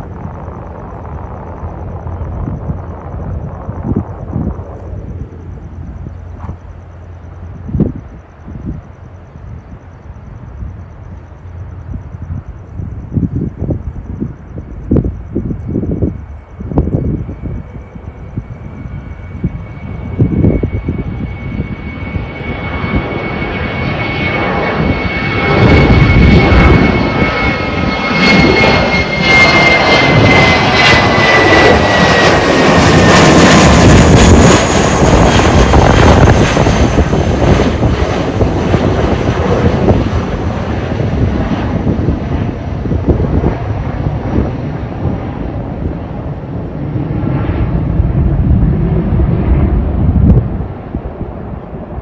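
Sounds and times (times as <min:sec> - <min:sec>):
high jet engine whine: 0:00.0 - 0:52.0
jet engine roar: 0:00.0 - 0:52.0.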